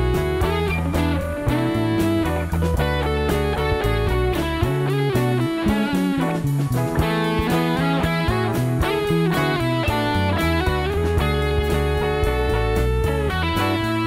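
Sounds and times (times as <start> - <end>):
bass line: 0.0 - 14.0
guitar: 0.0 - 14.0
steady beat: 0.0 - 14.0.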